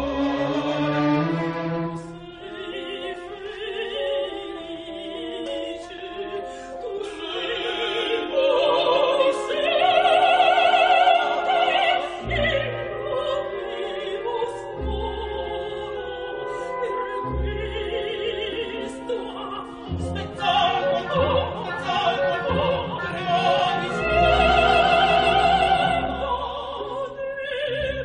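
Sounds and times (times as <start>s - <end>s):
operatic soprano singing: 0.0s - 28.0s
orchestra with strings: 0.0s - 28.0s.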